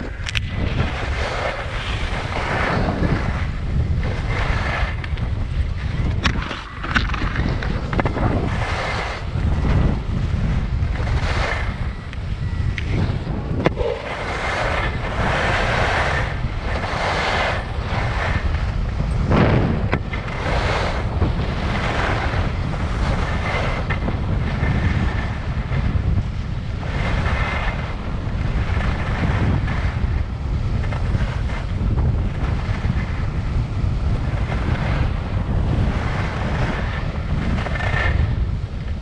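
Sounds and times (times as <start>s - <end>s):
skis scraping over snow: 0.0s - 39.0s
wind rumbling on microphone: 0.0s - 39.0s.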